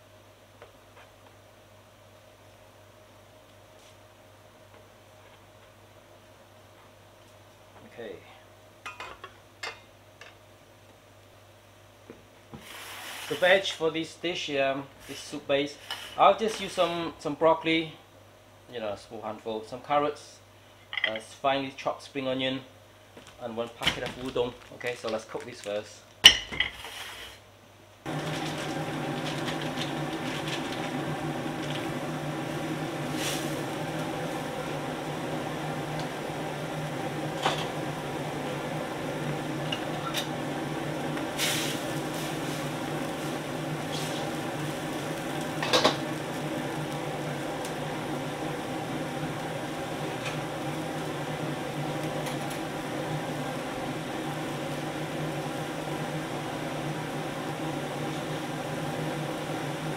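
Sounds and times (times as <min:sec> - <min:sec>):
gas burner and extraction fan hum: 0:00.0 - 0:59.9.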